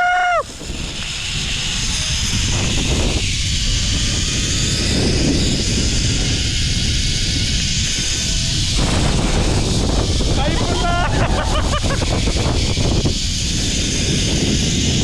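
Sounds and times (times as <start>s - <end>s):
wind buffeting microphone: 0.0s - 15.0s
low rumble: 0.4s - 15.0s.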